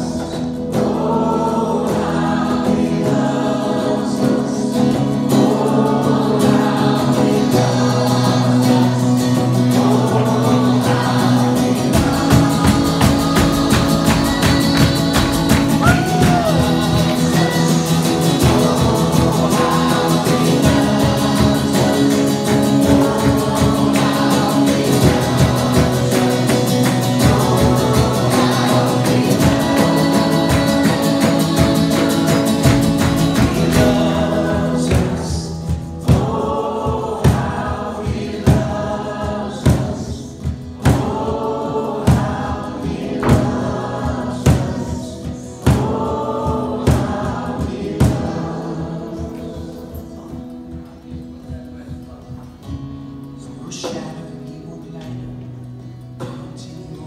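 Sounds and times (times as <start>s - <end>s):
group singing in harmony: 0.0s - 51.2s
acoustic guitar strumming: 0.0s - 57.0s
cajon beat: 0.0s - 57.0s.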